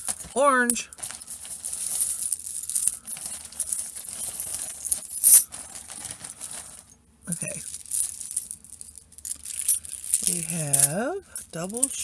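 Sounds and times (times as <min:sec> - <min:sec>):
beads and chains jangling: 0:00.0 - 0:12.0
chains clattering: 0:00.0 - 0:12.0.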